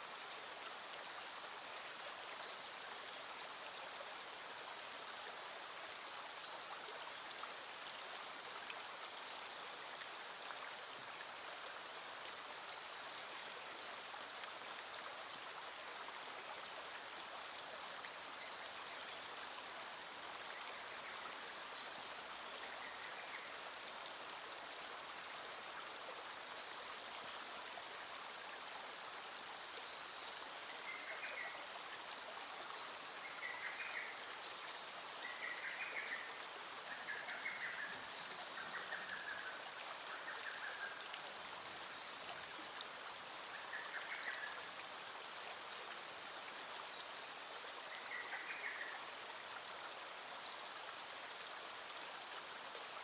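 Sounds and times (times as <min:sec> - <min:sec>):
stream running: 0:00.0 - 0:53.0.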